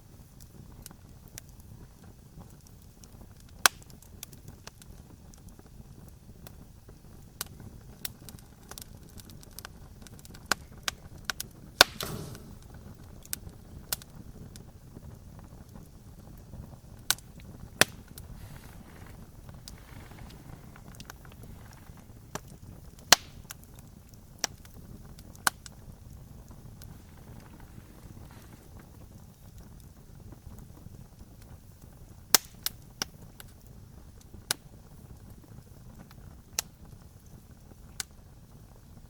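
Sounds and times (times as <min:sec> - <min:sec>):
campfire crackling pops: 0:00.0 - 0:39.0
low steady hiss: 0:00.0 - 0:39.0.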